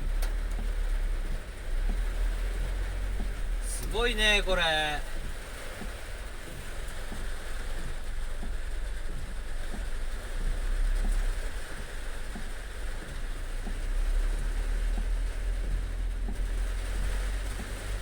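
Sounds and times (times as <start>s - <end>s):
heavy rain falling: 0.0s - 18.0s
low rumble: 0.0s - 18.0s.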